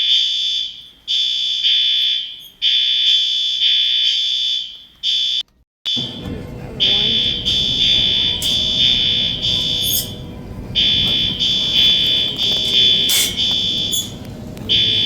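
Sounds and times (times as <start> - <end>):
fire alarm high-pitched electronic tone: 0.0 - 15.0.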